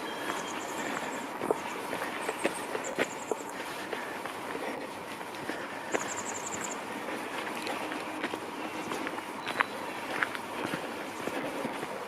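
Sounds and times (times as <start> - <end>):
rushing forest ambience: 0.0 - 12.0.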